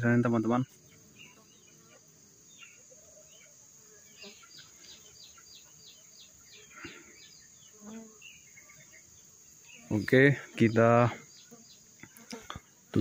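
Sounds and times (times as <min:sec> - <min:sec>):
bird chirping: 0:00.0 - 0:13.0
insect drone: 0:00.0 - 0:13.0.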